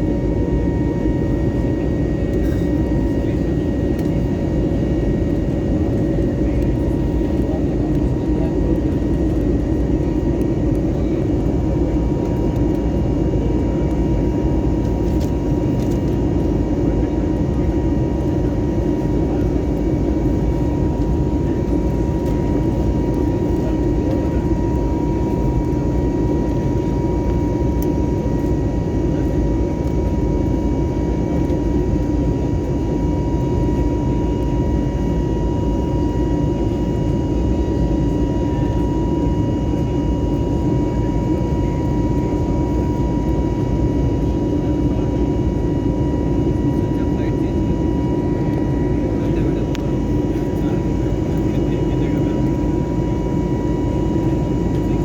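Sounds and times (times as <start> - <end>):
airliner engine and airflow rumble: 0.0 - 55.0.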